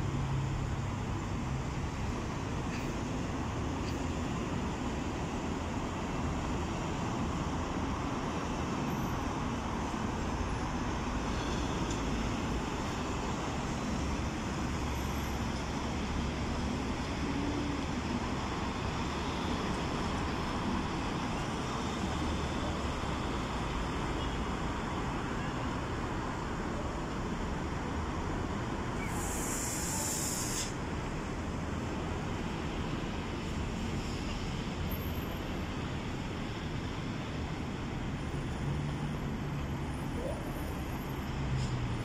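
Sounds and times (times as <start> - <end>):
road traffic rumble and hiss: 0.0 - 42.0.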